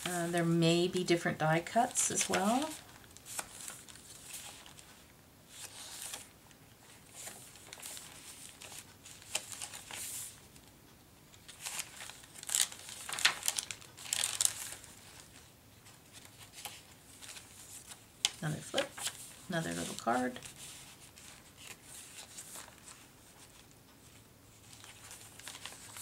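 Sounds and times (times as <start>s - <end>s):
paper rustling and crinkling: 1.6s - 10.4s, 11.3s - 26.0s.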